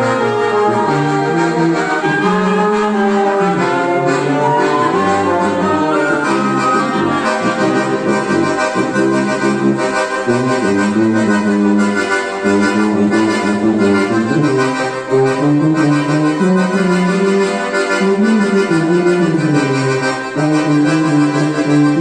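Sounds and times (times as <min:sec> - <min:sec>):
accordion: 0:00.0 - 0:22.0
wind band playing a hymn: 0:00.0 - 0:22.0.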